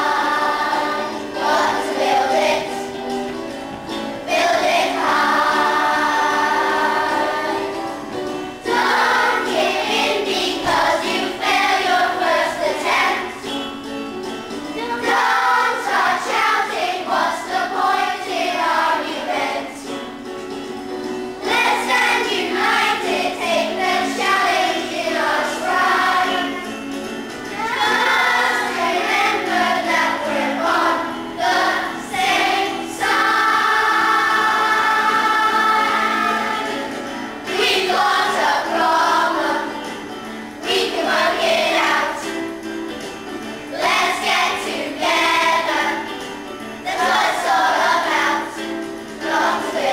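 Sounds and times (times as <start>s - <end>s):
children singing in unison: 0.0s - 3.2s, 4.0s - 13.6s, 14.8s - 19.9s, 21.4s - 26.8s, 27.5s - 42.6s, 43.7s - 49.9s
musical accompaniment: 0.0s - 49.9s.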